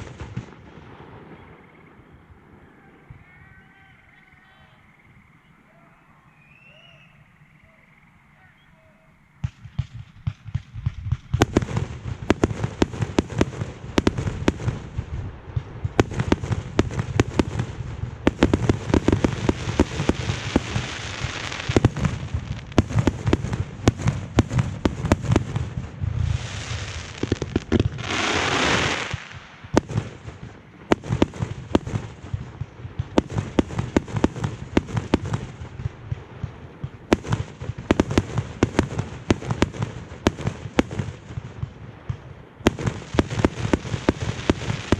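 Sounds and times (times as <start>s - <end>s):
fireworks hissing and crackling: 0.0s - 2.0s, 9.4s - 44.9s
fireworks bursting: 0.0s - 4.4s, 9.1s - 44.9s.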